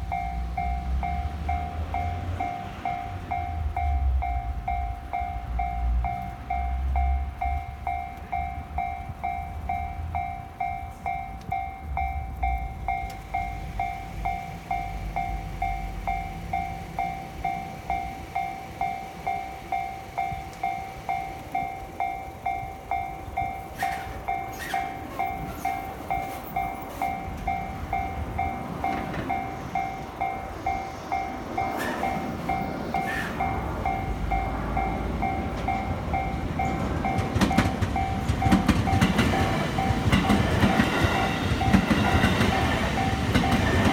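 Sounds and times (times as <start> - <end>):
level crossing bell ringing: 0.0 - 43.9
train passing: 0.0 - 43.9
train wheel clicks: 0.1 - 43.9.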